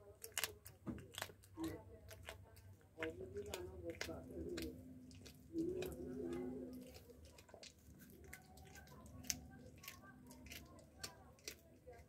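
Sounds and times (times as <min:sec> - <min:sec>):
cat chewing wet crunches: 0:00.0 - 0:12.0.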